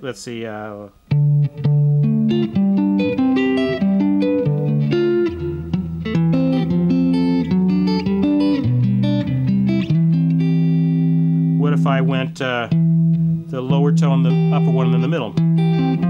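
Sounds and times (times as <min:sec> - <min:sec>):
electric guitar picking chords: 0:01.1 - 0:16.0.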